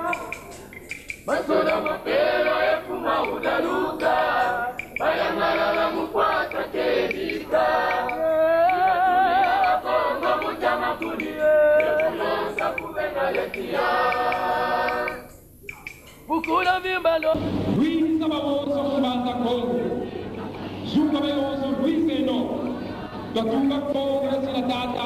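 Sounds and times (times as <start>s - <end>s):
men singing unaccompanied: 0.0s - 15.5s, 16.4s - 25.0s.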